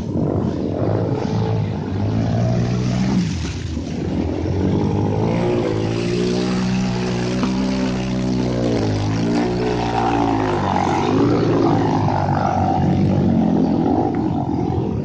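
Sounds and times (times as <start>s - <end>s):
dirt bike engine revving: 0.0s - 15.0s
water churning: 0.0s - 15.0s.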